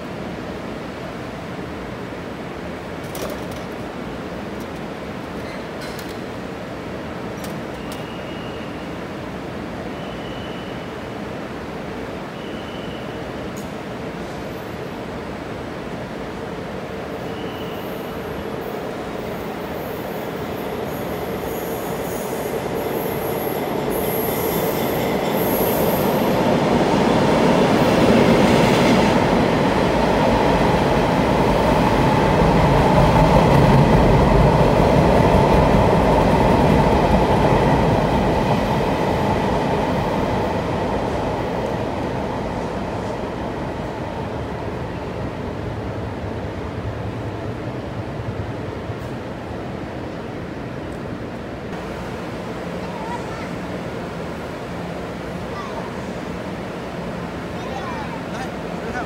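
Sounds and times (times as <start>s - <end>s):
train rumble: 0.0s - 8.3s, 18.0s - 59.0s.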